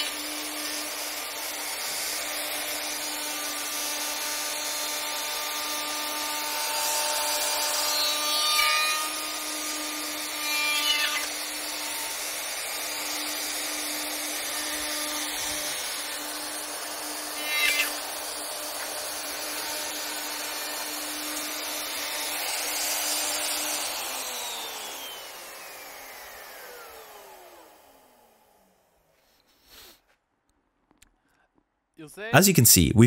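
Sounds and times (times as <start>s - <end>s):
router whining while cutting wood: 0.0s - 29.1s.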